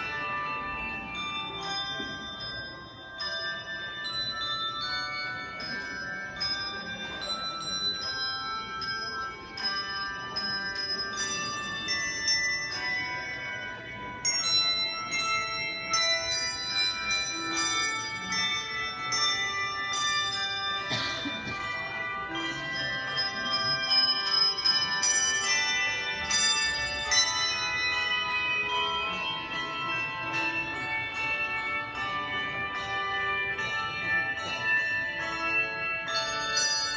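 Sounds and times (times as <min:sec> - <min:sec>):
bells ringing: 0:00.0 - 0:36.9.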